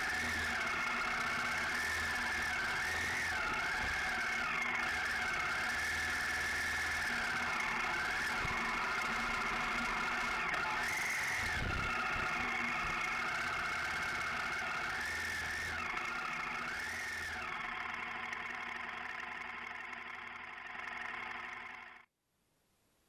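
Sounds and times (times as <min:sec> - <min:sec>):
motorcycle engine revving: 0:00.0 - 0:22.1.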